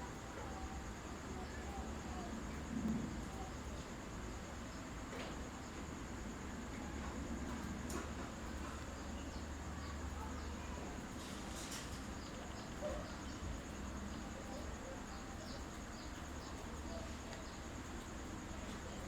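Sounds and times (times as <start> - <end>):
high-pitched insect trill: 0.0 - 19.0
low background hum: 0.0 - 19.0.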